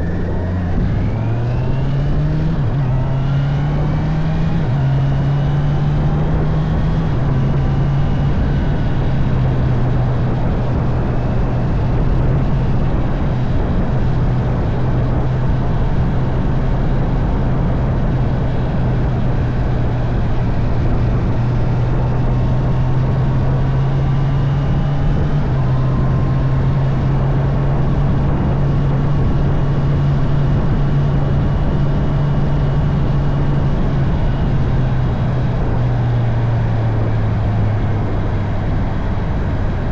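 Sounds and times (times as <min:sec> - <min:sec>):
constant rushing noise: 0:00.0 - 0:39.9
motorcycle engine running: 0:00.0 - 0:39.9.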